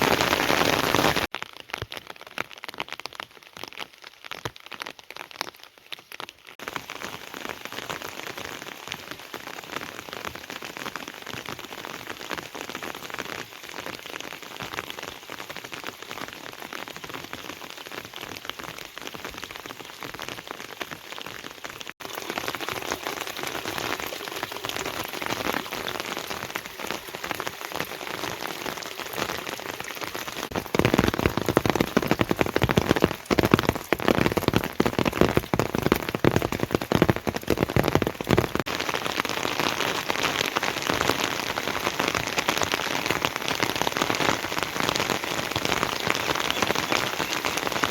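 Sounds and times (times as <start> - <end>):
heavy rain falling: 0.0 - 5.5, 6.2 - 47.9.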